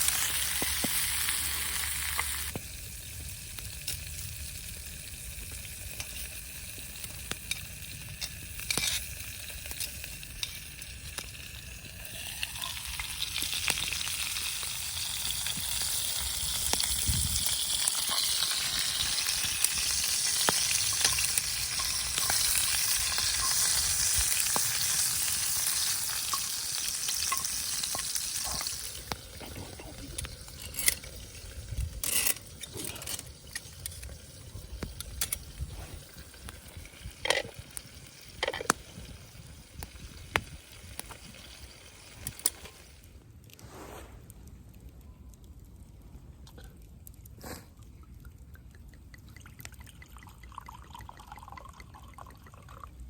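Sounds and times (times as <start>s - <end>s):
ribs sizzling in a skillet: 0.0s - 43.0s.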